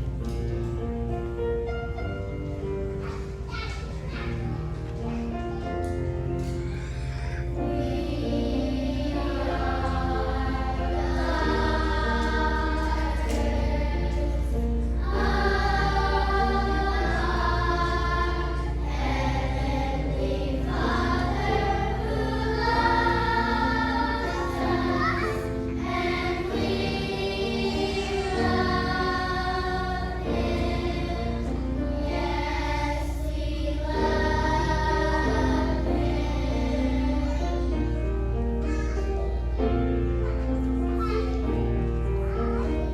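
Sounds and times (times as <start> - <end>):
children's choir singing: 0.0 - 42.9.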